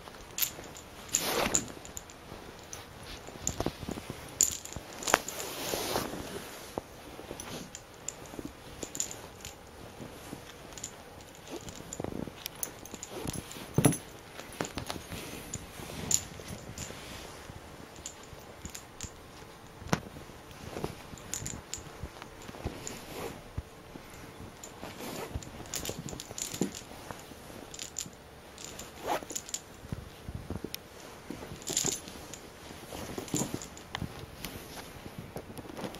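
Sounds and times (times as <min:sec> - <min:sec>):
cat toy jingling and rattling: 0:00.0 - 0:06.0, 0:07.2 - 0:19.8, 0:20.5 - 0:29.9, 0:31.3 - 0:34.3.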